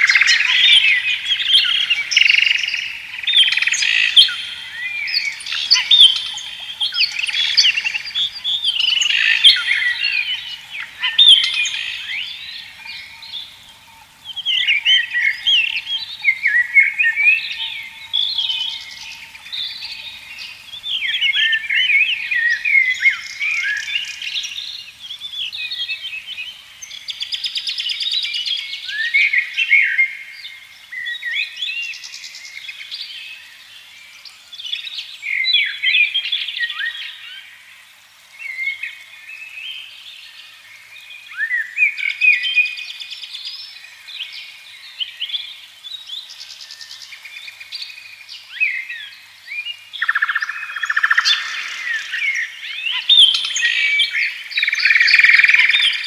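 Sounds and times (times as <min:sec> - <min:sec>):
birds singing and chirping: 0:00.0 - 0:37.4, 0:39.6 - 0:56.0.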